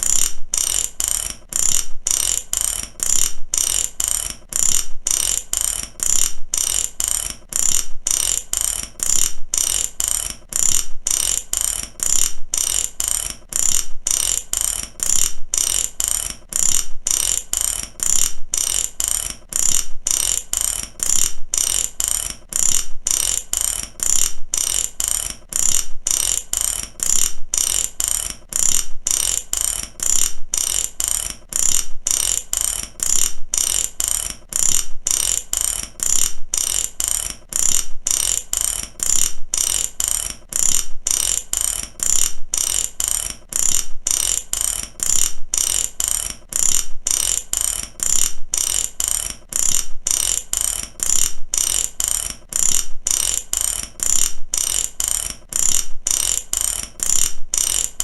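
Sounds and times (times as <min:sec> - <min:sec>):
ratchet wrench clicking: 0:00.0 - 0:58.0.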